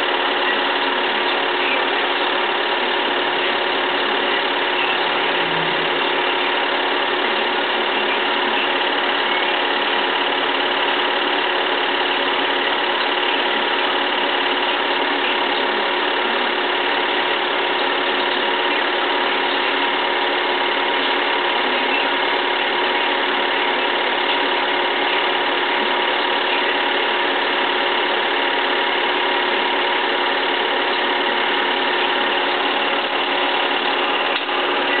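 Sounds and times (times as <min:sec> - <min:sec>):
film projector whirring: 0:00.0 - 0:35.0.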